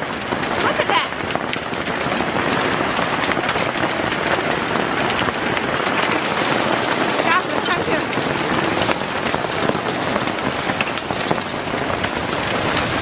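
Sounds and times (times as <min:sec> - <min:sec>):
hail hissing on surfaces: 0:00.0 - 0:13.0.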